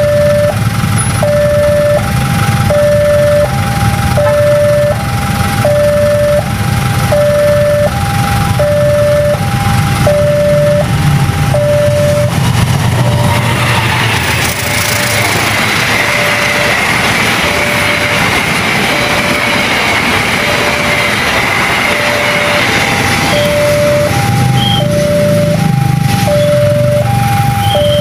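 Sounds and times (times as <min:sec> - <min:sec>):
crossing alarm two-note chime: 0:00.0 - 0:28.0
train wheels on rails: 0:00.0 - 0:28.0.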